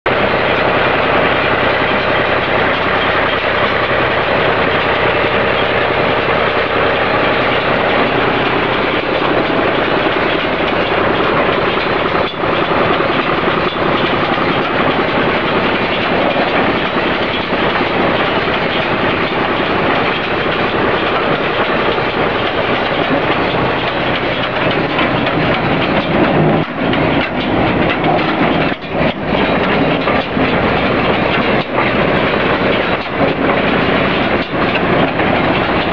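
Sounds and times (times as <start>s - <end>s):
tractor engine running: 0.0s - 35.9s
hay baler clattering: 0.1s - 35.9s.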